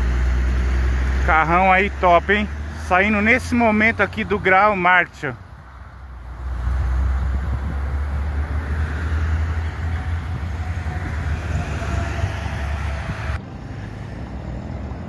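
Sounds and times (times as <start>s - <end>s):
heavy traffic rumble: 0.0s - 15.0s.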